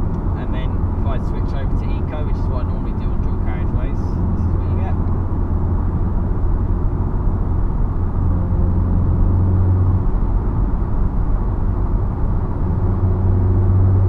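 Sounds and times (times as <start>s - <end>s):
car engine and exhaust humming: 0.0s - 14.0s.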